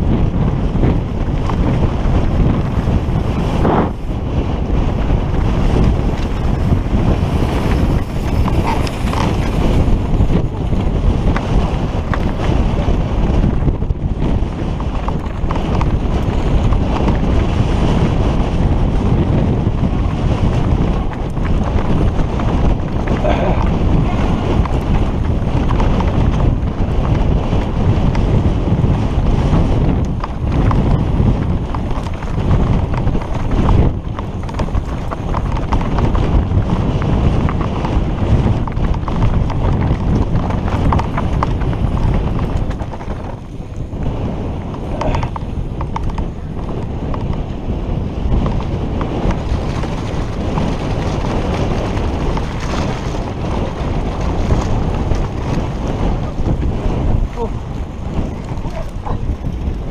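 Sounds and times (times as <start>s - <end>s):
wind buffeting a microphone: 0.0s - 59.9s
mountain bike rattling over rocks: 0.4s - 59.9s.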